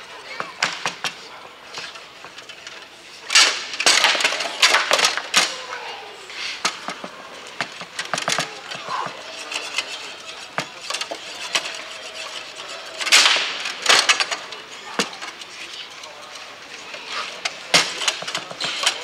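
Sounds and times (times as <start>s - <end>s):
foosball ball clacking: 0.3s - 2.7s, 3.3s - 5.6s, 6.6s - 15.5s, 17.4s - 19.0s
foosball rods knocking: 0.3s - 5.7s, 6.6s - 15.8s, 17.1s - 19.0s.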